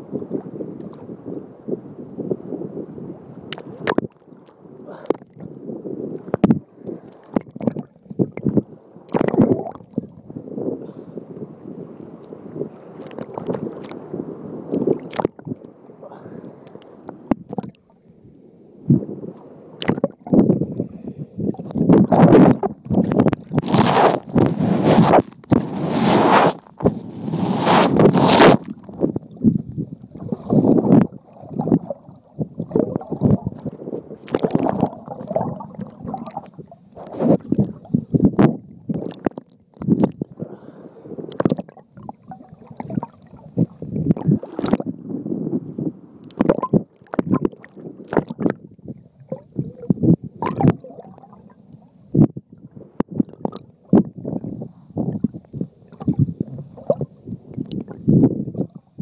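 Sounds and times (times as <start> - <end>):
underwater sloshing and gurgling: 0.0 - 59.0.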